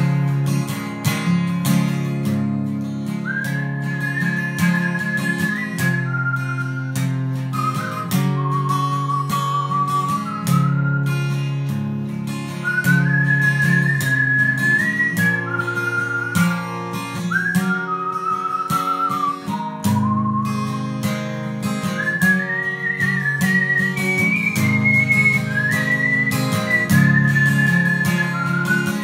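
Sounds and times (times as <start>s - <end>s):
strummed acoustic guitar: 0.0s - 29.0s
high whistle-like melody: 3.1s - 29.0s.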